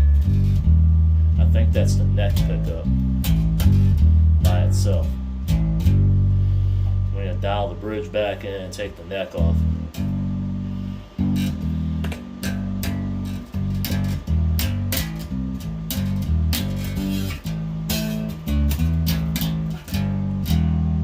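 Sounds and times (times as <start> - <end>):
electric bass plucked notes: 0.0 - 21.0.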